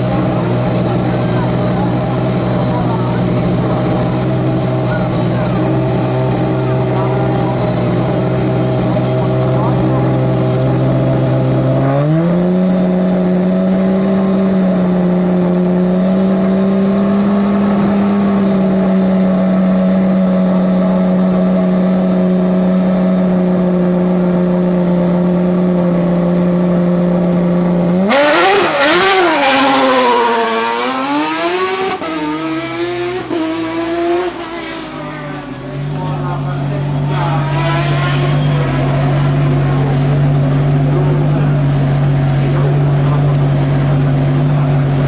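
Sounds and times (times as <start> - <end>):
race car accelerating away: 0.0 - 45.0
race car engine revving: 0.0 - 45.0.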